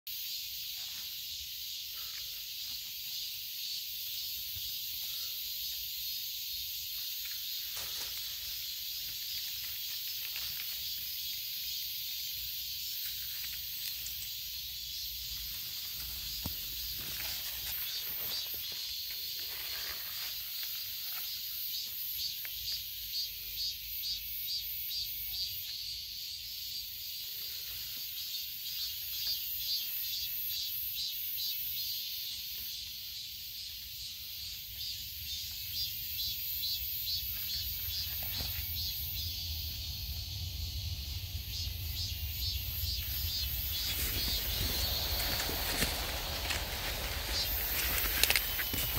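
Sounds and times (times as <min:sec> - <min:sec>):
high-pitched insect chorus: 0:00.1 - 0:48.9.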